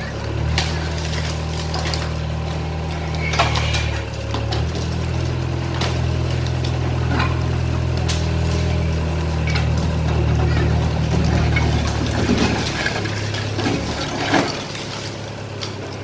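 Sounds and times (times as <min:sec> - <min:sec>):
concrete debris knocking: 0:00.0 - 0:15.8
excavator diesel engine running: 0:00.0 - 0:16.0.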